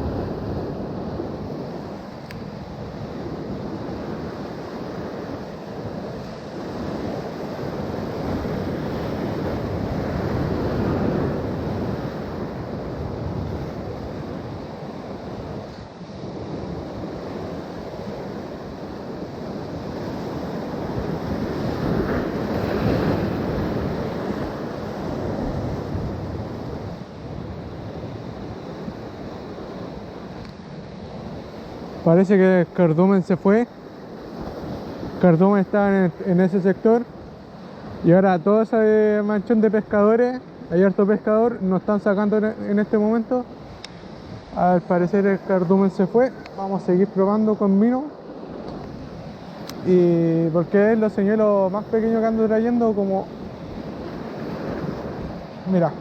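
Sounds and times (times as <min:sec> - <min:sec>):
ocean waves on shore: 0:00.0 - 0:56.0
wind buffeting microphone: 0:00.0 - 0:56.0.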